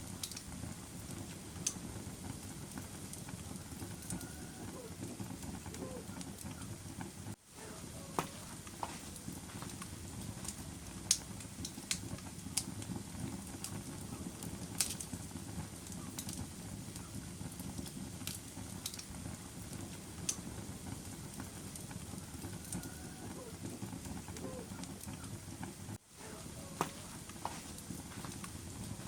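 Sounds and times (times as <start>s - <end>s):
fire crackling and popping: 0.0s - 29.0s
low rumble of flames: 0.0s - 29.0s.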